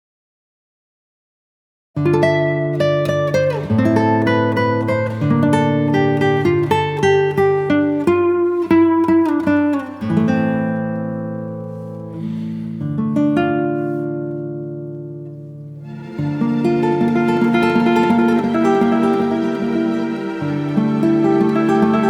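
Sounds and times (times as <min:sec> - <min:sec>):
solo acoustic guitar melody: 0:02.0 - 0:22.0.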